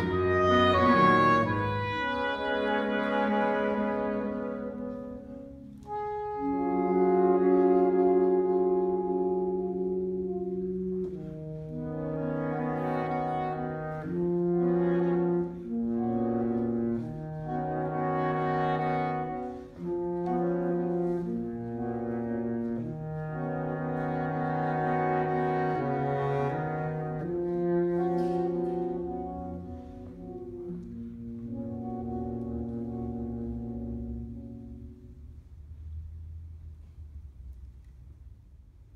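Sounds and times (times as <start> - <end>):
saxophone quartet sustained chords: 0.0 - 36.8.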